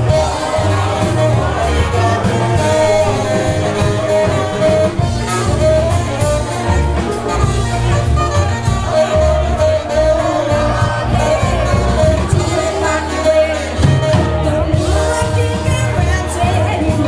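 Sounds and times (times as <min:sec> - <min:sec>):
brass band playing: 0:00.0 - 0:17.0
low bass line: 0:00.0 - 0:17.0
woman singing: 0:00.0 - 0:17.0.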